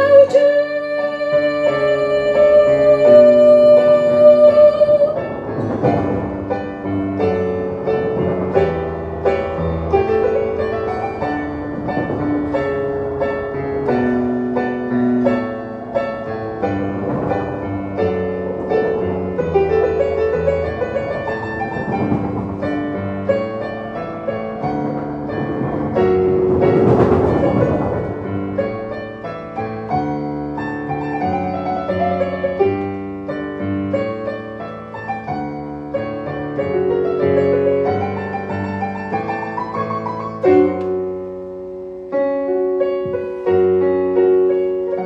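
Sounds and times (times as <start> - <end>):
slow piano ballad: 0.0 - 45.0.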